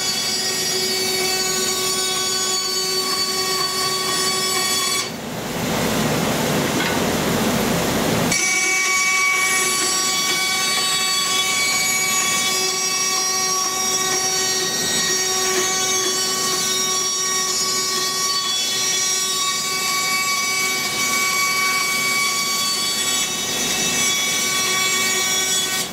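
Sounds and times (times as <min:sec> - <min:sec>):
band saw whining: 0:00.0 - 0:05.2, 0:08.3 - 0:25.9
saw blade cutting wood: 0:00.0 - 0:05.2, 0:08.3 - 0:25.9.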